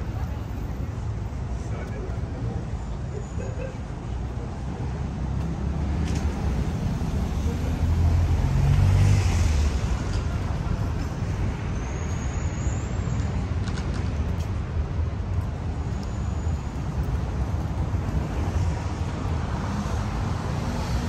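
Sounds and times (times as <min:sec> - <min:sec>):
rumble of passing cars: 0:00.0 - 0:21.0.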